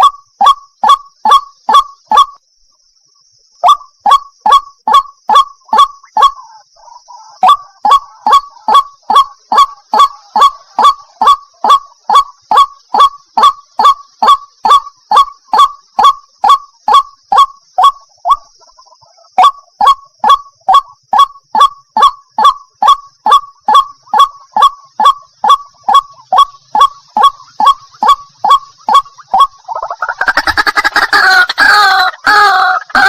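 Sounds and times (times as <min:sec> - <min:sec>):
waterhen calling sharp notes: 0:03.7 - 0:33.0.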